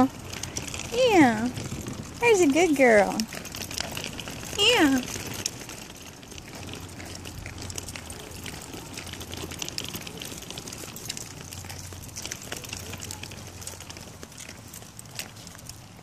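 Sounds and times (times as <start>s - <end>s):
stroller wheels rolling on asphalt: 0.0s - 16.0s.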